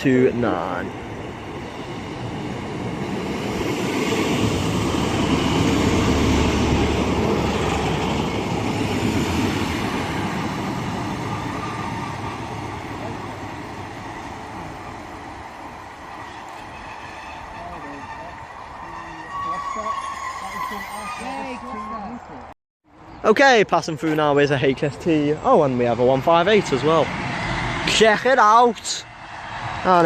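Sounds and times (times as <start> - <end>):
diesel train rumbling past: 0.0 - 22.3, 24.5 - 30.0.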